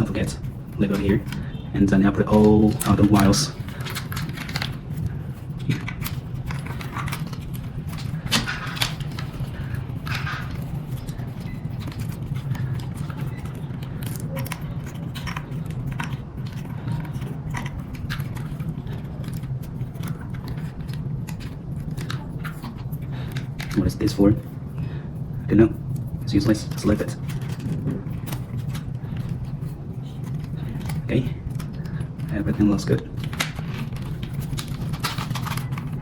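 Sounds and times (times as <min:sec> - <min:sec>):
clicks and rustles of wires: 0:00.0 - 0:36.0
steady low hum: 0:00.0 - 0:36.0.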